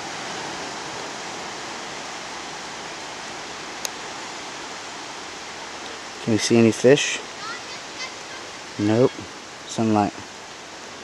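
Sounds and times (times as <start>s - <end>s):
ocean surf hissing: 0.0s - 11.0s.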